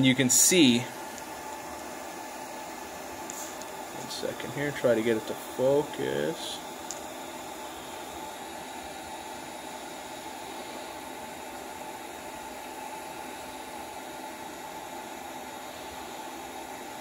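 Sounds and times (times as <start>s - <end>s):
faint hum: 0.0s - 17.0s
fan hiss: 0.0s - 17.0s.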